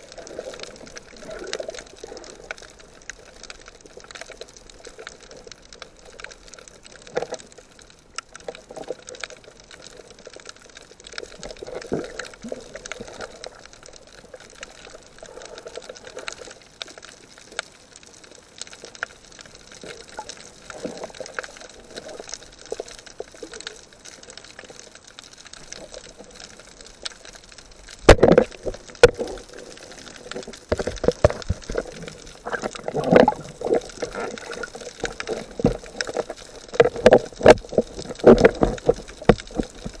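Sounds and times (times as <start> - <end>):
water splashing: 0.0 - 17.6, 18.4 - 40.0
underwater bubbling: 0.0 - 40.0.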